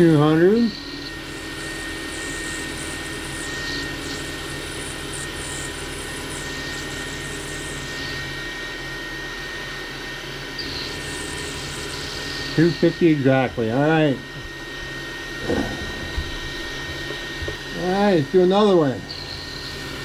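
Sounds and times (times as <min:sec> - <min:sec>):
milling machine whining: 0:00.0 - 0:20.0.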